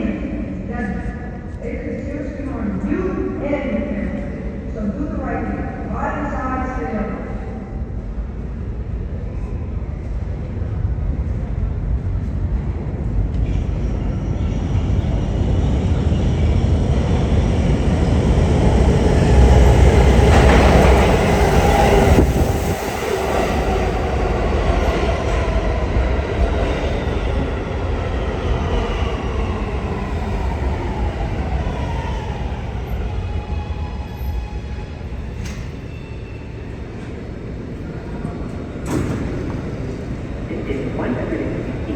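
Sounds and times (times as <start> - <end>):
subway train rumble: 0.0 - 41.9.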